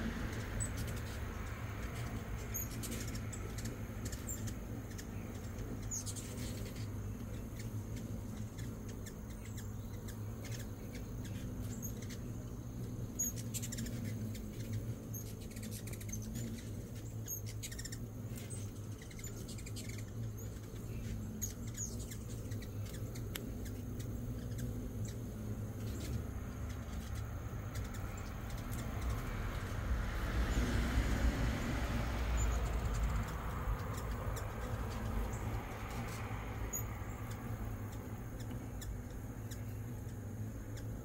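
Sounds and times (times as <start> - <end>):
steady low hum: 0.0 - 41.0
hummingbird chip notes: 0.1 - 29.8, 32.3 - 41.0.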